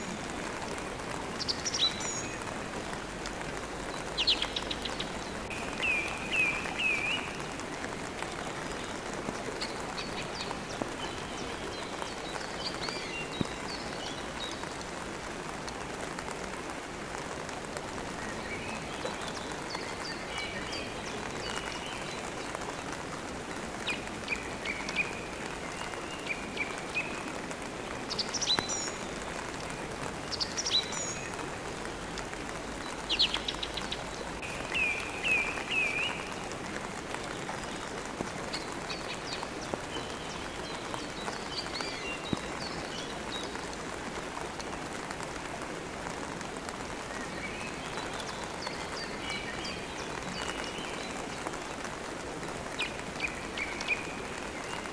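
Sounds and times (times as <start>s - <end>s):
songbirds chirping: 0.0s - 54.9s
steady rain: 0.0s - 54.9s.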